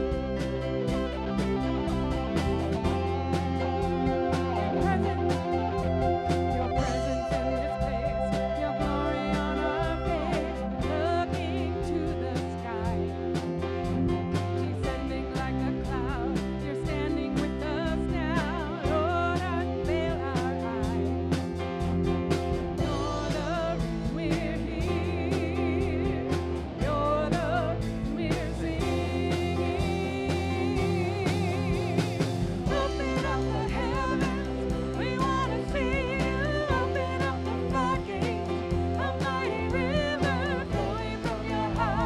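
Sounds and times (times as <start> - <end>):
person singing with vibrato: 0.0 - 21.4, 22.8 - 42.0
drum kit steady beat: 0.0 - 42.0
electric bass: 0.0 - 42.0
electric guitar: 0.0 - 42.0
keyboard: 0.0 - 42.0.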